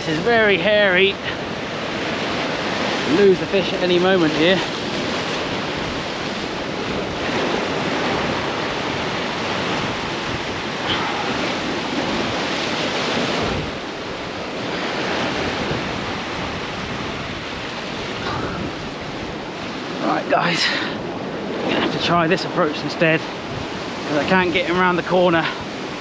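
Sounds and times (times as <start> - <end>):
sea surf breaking against rocks: 0.0 - 26.0.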